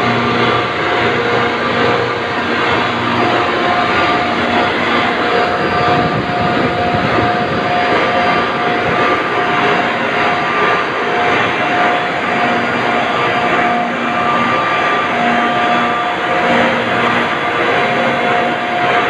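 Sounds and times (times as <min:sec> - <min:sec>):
compressors and motors din: 0:00.0 - 0:19.0
faint whining tones: 0:00.0 - 0:19.0.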